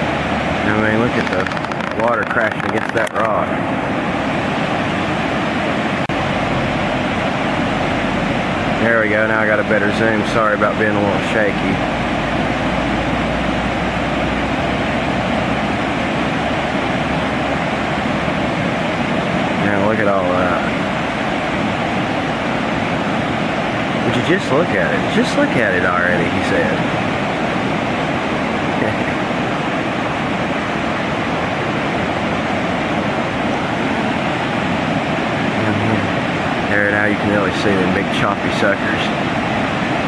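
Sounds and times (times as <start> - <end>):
river rushing through rapids: 0.0 - 40.0.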